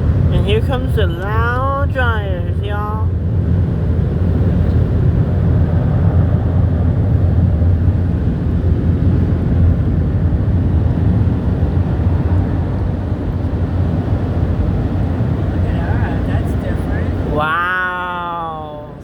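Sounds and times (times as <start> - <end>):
strong low hum: 0.0 - 19.0.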